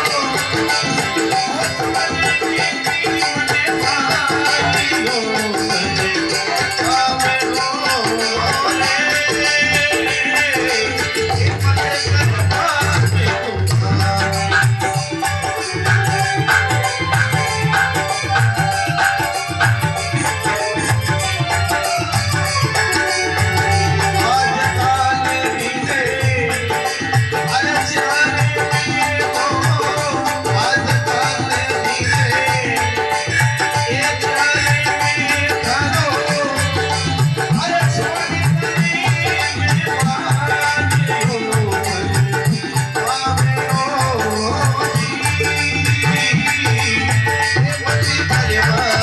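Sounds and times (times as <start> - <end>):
hand drum rhythm: 0.0 - 49.0
wavering melody: 0.0 - 49.0.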